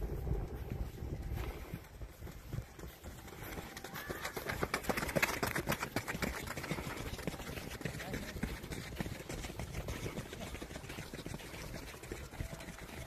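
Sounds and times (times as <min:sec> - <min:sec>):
running footsteps on pavement: 0:00.0 - 0:13.0.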